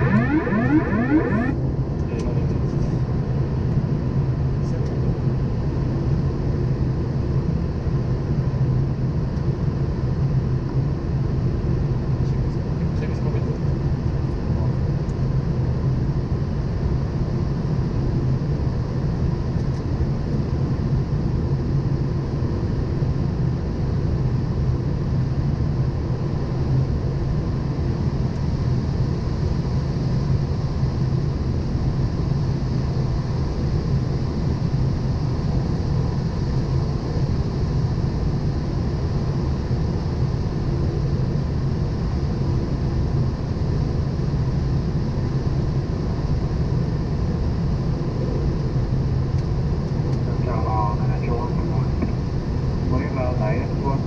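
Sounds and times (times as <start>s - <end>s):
aircraft cockpit rumble: 0.0s - 15.3s, 16.8s - 54.0s.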